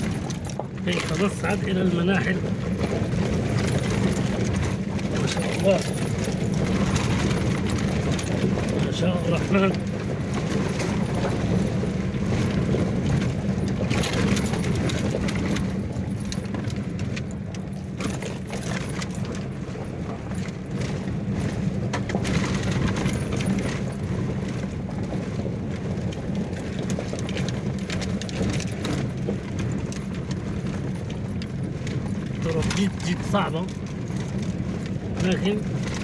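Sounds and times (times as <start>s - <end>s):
car body rattling: 0.0s - 36.0s
car engine humming: 0.0s - 36.0s.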